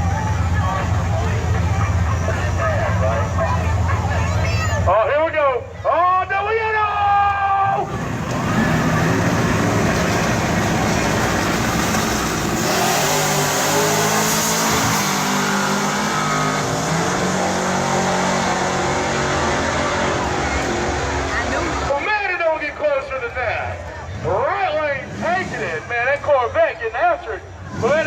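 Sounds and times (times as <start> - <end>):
drag racing cars accelerating: 0.0 - 5.2, 7.6 - 28.0.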